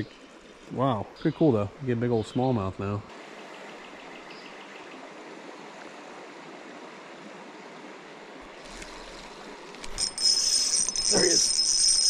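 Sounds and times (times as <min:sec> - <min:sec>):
creek flowing: 0:00.0 - 0:12.0.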